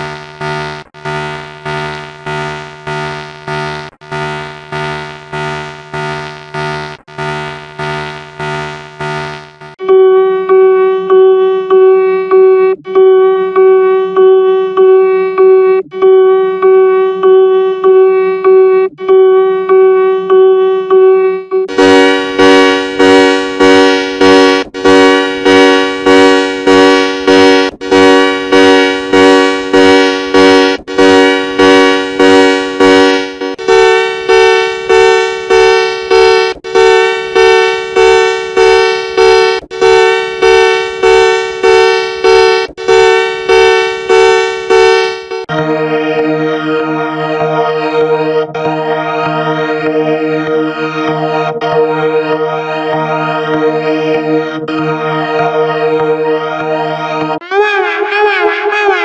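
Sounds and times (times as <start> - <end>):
pulsing buzzy alarm tone: 0.0 - 57.4.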